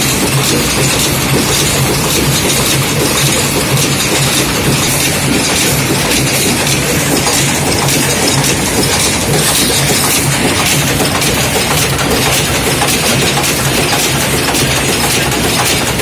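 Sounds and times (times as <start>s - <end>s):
rapid metallic machine clatter: 0.0s - 16.0s.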